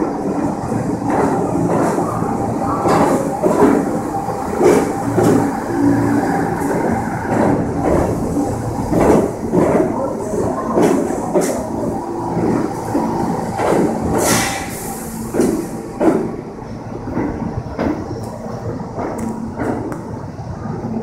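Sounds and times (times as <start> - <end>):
subway train wheels clacking on rails: 0.0 - 21.0.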